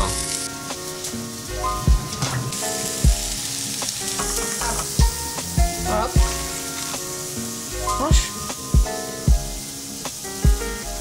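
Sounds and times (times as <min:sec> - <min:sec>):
background music with steady beat: 0:00.0 - 0:11.0
bacon sizzling in a frying pan: 0:00.0 - 0:11.0.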